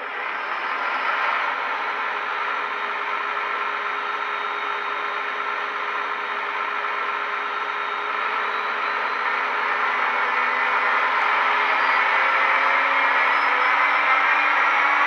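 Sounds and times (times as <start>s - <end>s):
electric locomotive hum: 0.0s - 15.0s.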